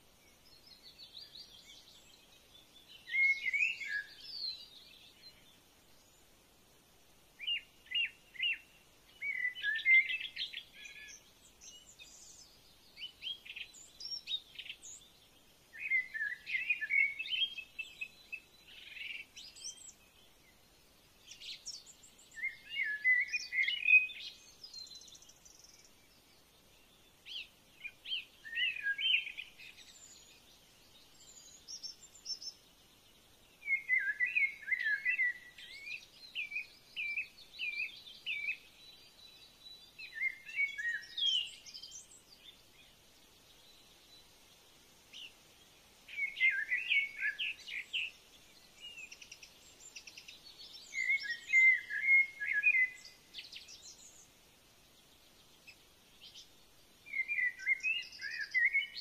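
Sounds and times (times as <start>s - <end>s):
bird warbling song: 0.0s - 6.3s, 7.4s - 59.0s.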